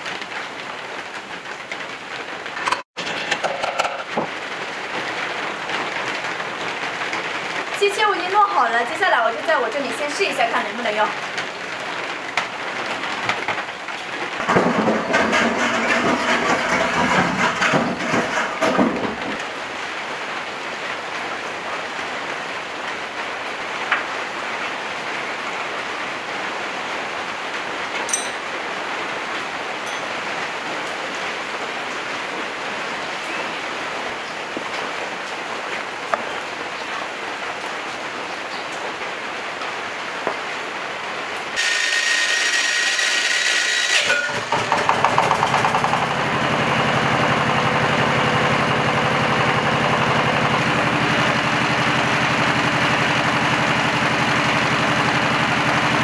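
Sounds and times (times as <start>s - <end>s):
steady rain hiss: 0.0s - 2.7s, 4.0s - 14.8s, 18.6s - 56.0s.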